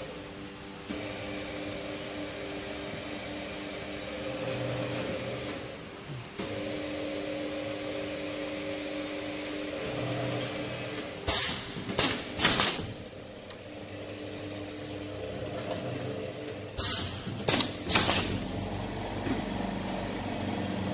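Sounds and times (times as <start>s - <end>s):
machine mechanical hum: 0.0s - 20.9s.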